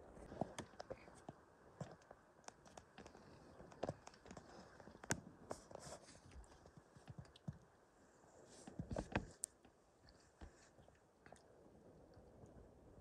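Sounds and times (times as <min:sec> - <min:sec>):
faint clicks and rustles: 0:00.0 - 0:13.0.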